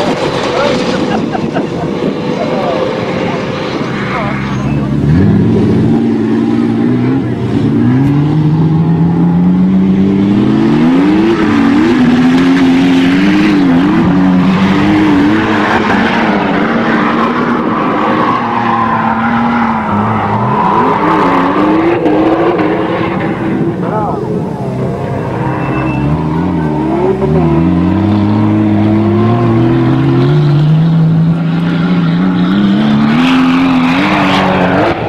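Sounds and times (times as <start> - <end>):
pickup engine revving under load: 0.0 - 35.0.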